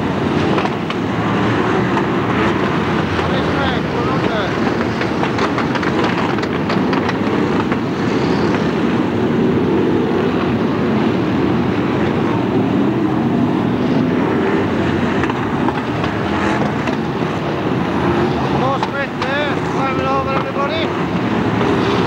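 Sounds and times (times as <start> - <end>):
racing car engines roaring: 0.0 - 22.0.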